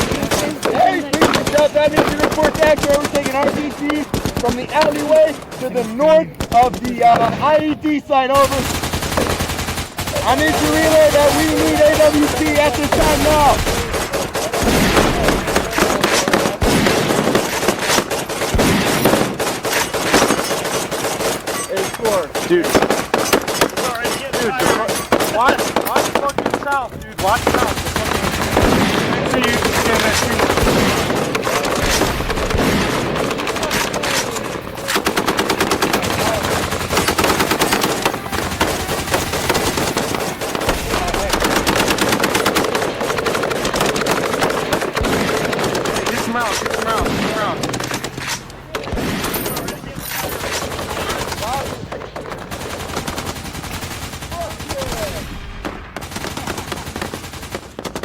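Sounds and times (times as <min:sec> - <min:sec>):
rapid automatic gunfire: 0:00.0 - 0:58.0.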